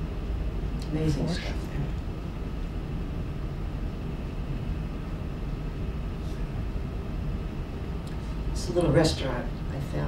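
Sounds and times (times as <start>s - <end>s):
low room rumble and hum: 0.0s - 10.0s.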